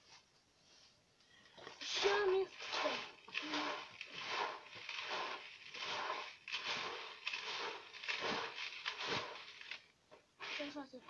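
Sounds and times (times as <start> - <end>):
seeds poured into a bowl: 1.6 - 11.0.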